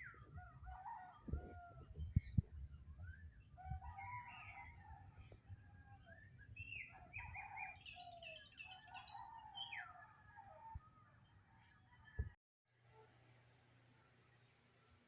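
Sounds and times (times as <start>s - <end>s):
faint birdsong: 0.0s - 12.3s.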